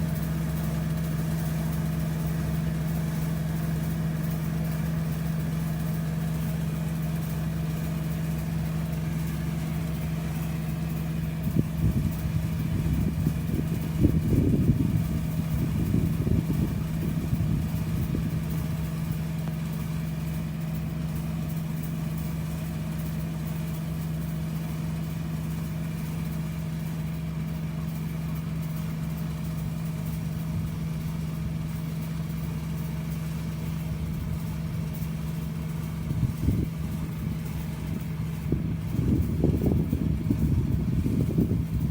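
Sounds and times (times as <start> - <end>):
harvester engine humming: 0.0 - 41.9.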